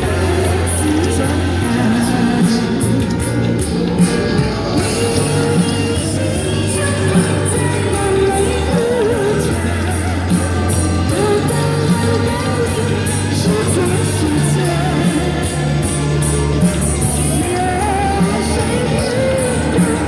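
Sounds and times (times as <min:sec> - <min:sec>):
person singing with vibrato: 0:00.0 - 0:20.0
pop backing track: 0:00.0 - 0:20.0.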